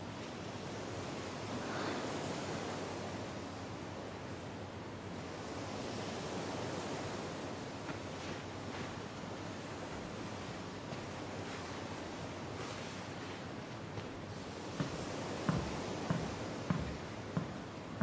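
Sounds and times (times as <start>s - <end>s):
sea waves rushing: 0.0s - 18.0s.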